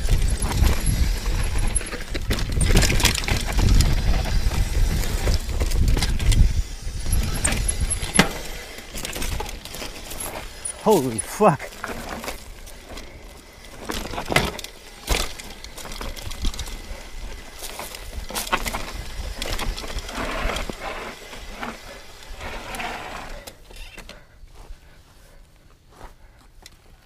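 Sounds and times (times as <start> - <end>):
mountain bike clattering over bumps: 0.0 - 10.8, 11.7 - 24.1
tyres rumbling on dirt: 0.0 - 23.4.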